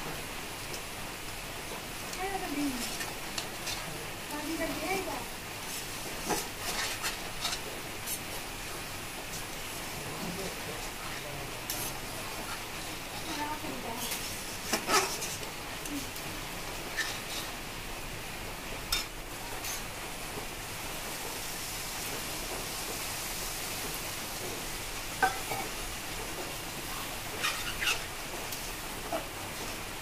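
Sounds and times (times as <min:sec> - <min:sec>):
curry sizzling in a wok: 0:00.0 - 0:30.0.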